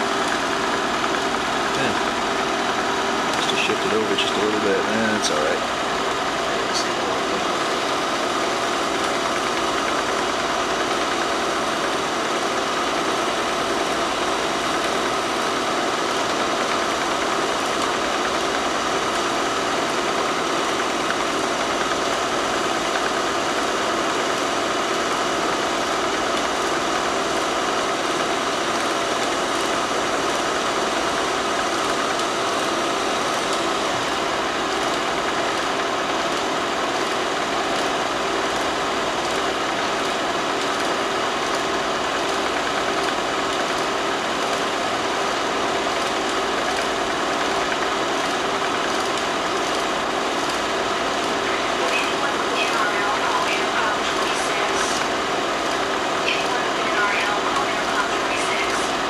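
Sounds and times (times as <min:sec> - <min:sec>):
film projector running: 0:00.0 - 0:59.0.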